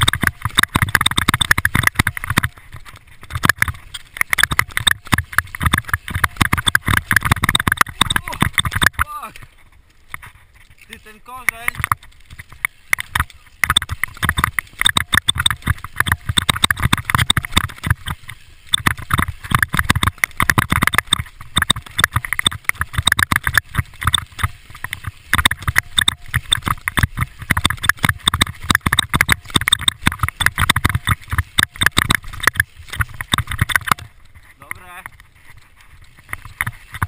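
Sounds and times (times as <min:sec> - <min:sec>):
mountain bike clattering: 0:00.0 - 0:37.0
tyres on dirt and roots: 0:00.0 - 0:37.0.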